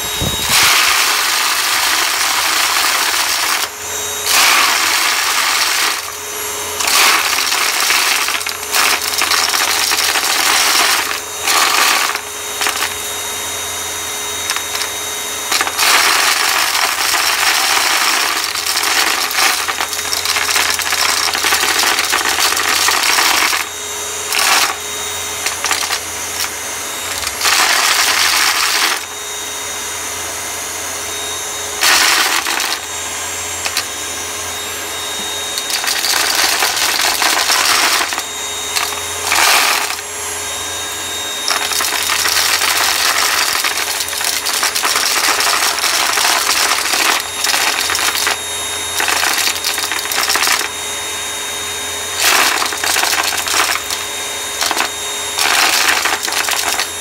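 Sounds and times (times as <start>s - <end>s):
debris crunching in vacuum: 0.0s - 29.6s, 31.1s - 51.2s, 52.1s - 57.0s
vacuum cleaner motor hum: 0.0s - 57.0s.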